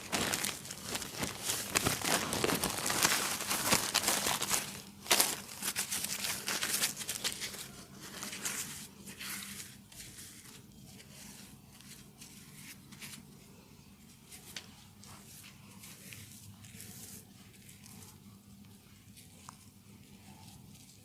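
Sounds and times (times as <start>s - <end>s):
crinkly rustling and rubbing: 0.0s - 21.0s.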